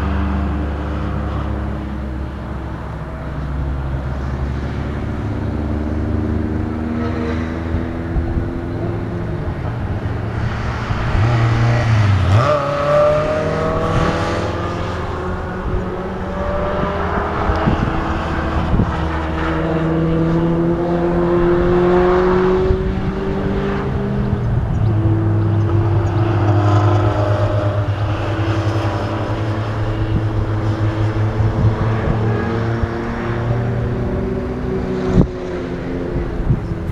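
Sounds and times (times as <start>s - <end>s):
sports car engines racing: 0.0s - 36.9s.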